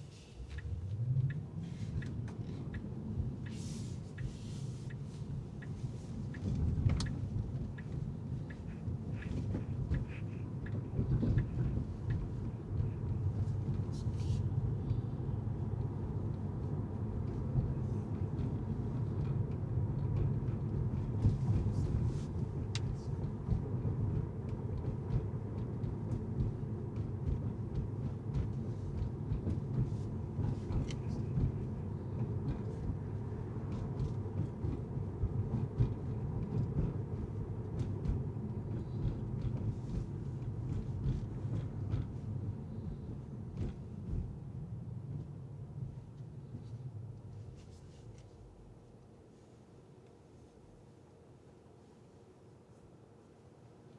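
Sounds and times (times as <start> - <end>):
car road and engine rumble: 0.0 - 50.0.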